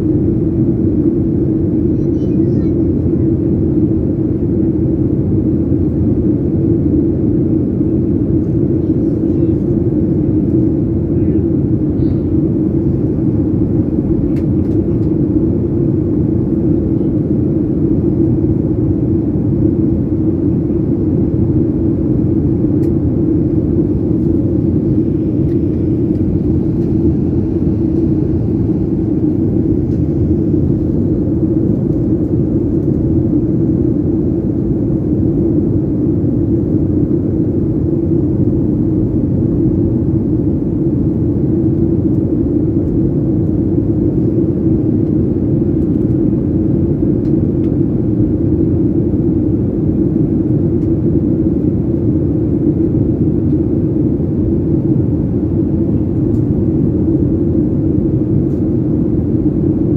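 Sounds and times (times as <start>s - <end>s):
constant deep hum: 0.0s - 59.9s
jet engine cabin drone: 0.0s - 59.9s.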